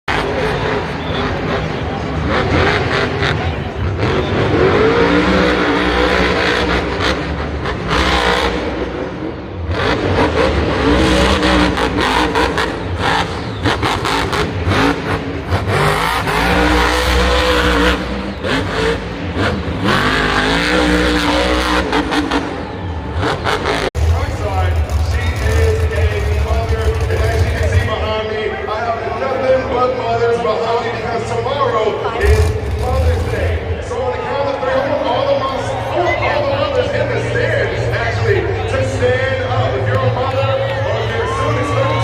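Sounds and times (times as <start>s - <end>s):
truck engine accelerating: 0.0s - 42.0s.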